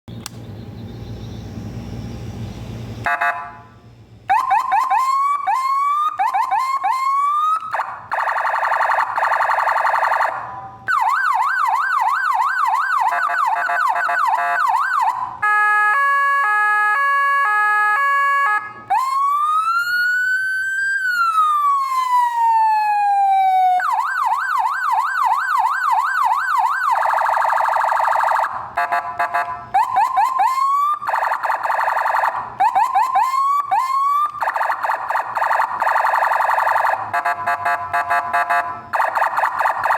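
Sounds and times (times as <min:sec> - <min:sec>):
electronic siren cycling tones: 0:04.3 - 0:39.9.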